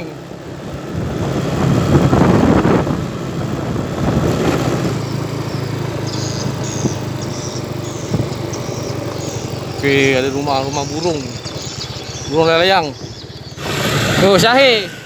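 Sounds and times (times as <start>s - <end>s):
scooter engine running: 0.0s - 15.0s
tyres and rattle on gravel: 0.0s - 15.0s.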